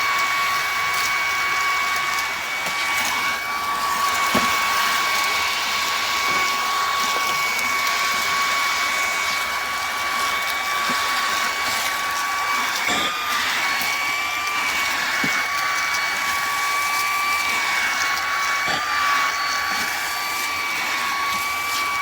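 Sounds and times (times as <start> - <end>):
stick vacuum running: 0.0 - 22.0.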